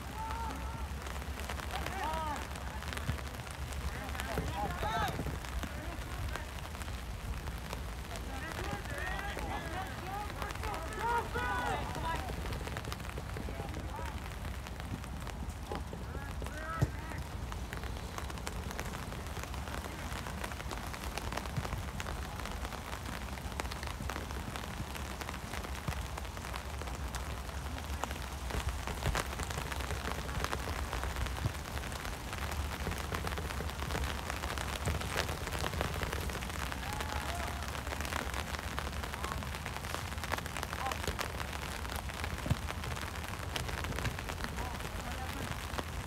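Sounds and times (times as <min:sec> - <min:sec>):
steady rain falling: 0:00.0 - 0:46.0
sharp raindrop ticks: 0:00.2 - 0:46.0.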